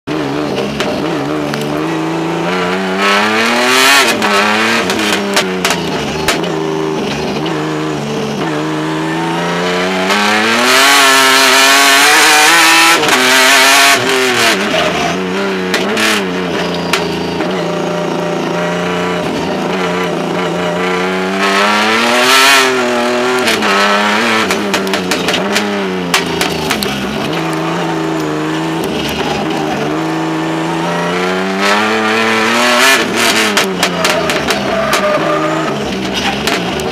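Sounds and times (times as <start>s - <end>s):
race car engine revving: 0.1s - 36.9s
road noise: 0.1s - 36.9s.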